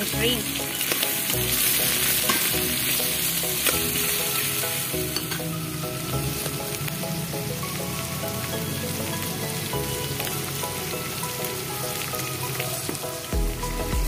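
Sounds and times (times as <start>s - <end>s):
seafood sizzling in hot oil: 0.0s - 13.9s.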